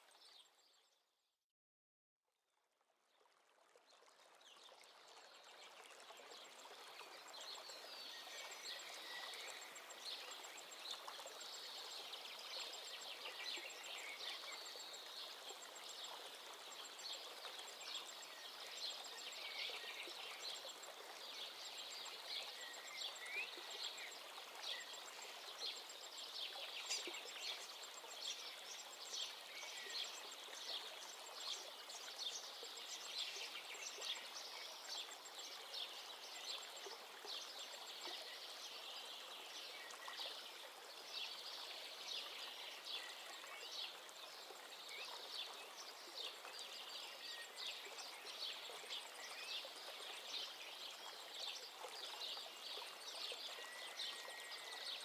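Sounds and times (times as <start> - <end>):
songbirds chirping and twittering: 3.9 - 55.0.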